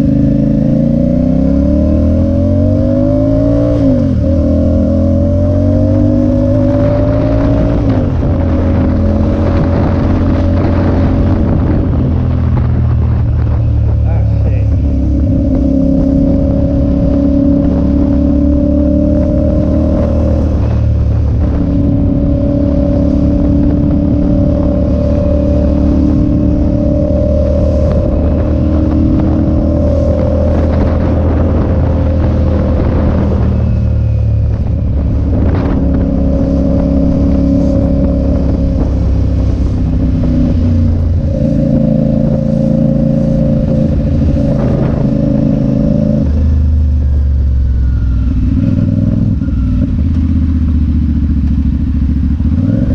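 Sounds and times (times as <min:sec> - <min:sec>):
motorcycle engine running: 0:00.0 - 0:52.9
wind rush on microphone: 0:00.0 - 0:52.9.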